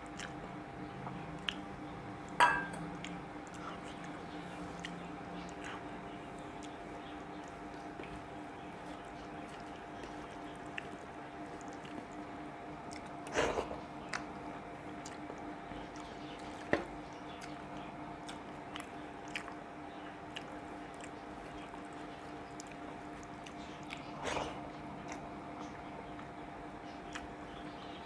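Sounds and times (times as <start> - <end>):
faint steady hum: 0.0 - 28.0
soft chewing: 0.0 - 28.0
wet squishing of food by hand: 2.8 - 27.9.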